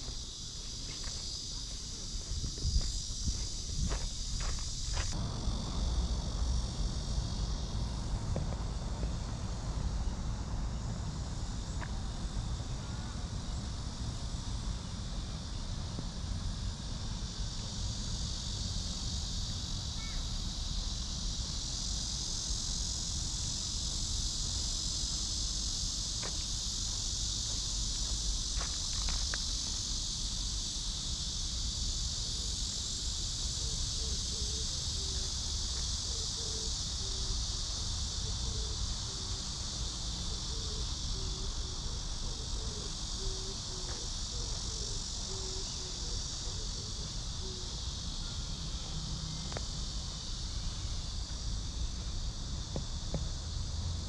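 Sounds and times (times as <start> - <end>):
cicada chorus buzzing: 0.0 - 54.0.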